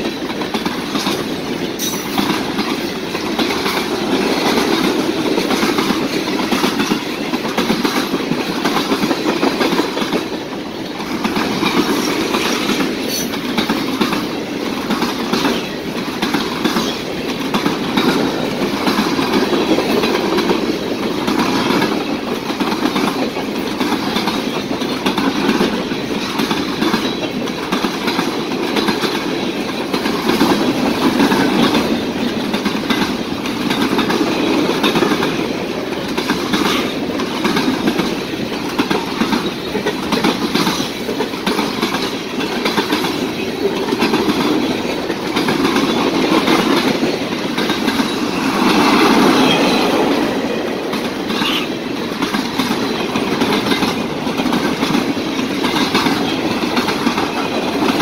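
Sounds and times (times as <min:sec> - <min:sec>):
freight train wheels rumbling: 0:00.0 - 0:58.0
wheels clacking on rail joints: 0:00.0 - 0:58.0.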